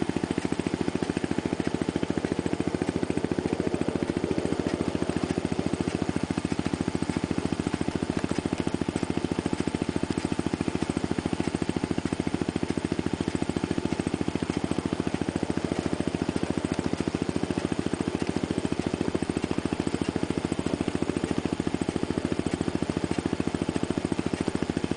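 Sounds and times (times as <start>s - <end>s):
small engine puttering: 0.0s - 24.9s.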